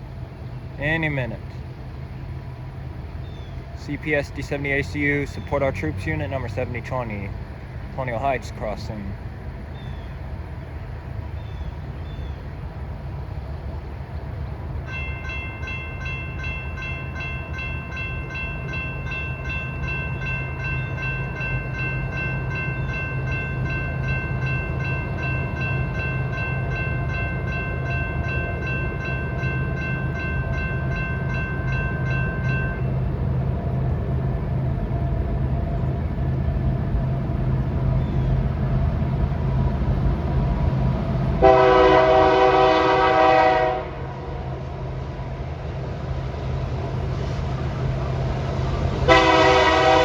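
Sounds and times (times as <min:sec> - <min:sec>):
diesel locomotive engine rumble: 0:00.0 - 0:50.0
crossing warning bell ringing: 0:00.1 - 0:09.4, 0:14.4 - 0:50.0.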